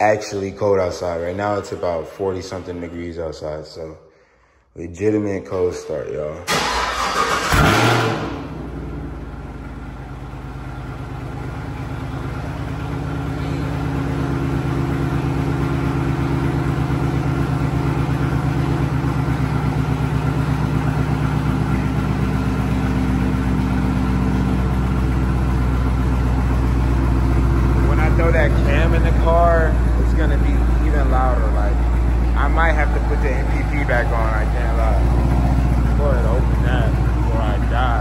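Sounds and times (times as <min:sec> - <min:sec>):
car engine starting and idling: 0:05.5 - 0:38.0.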